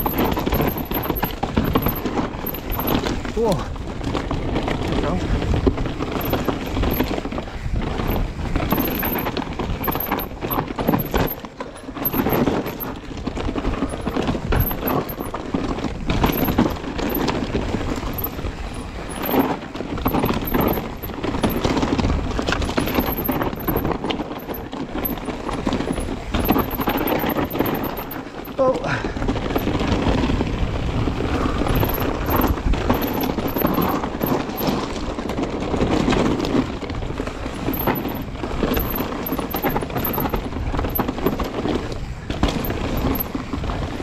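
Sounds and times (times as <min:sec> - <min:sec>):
bike rattling: 0:00.0 - 0:44.0
bike tyres on dirt: 0:00.0 - 0:44.0
wheels knocking over roots: 0:00.0 - 0:44.0.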